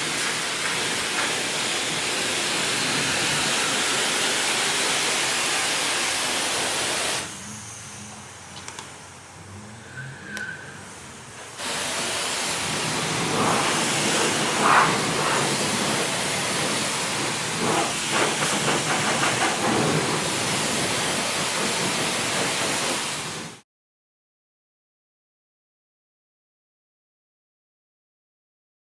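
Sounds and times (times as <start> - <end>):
pressure washer spray hissing: 0.0 - 23.6.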